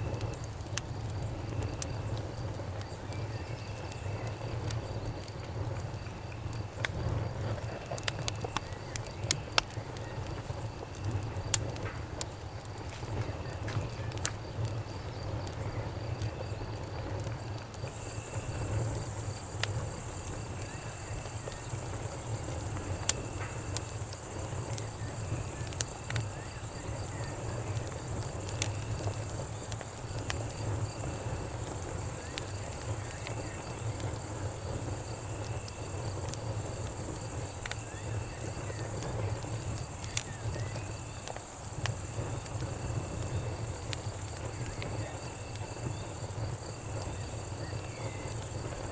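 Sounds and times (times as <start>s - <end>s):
crickets and cicadas chirring: 0.0s - 48.9s
low rumble of fire: 0.0s - 48.9s
campfire crackling and popping: 0.1s - 48.9s.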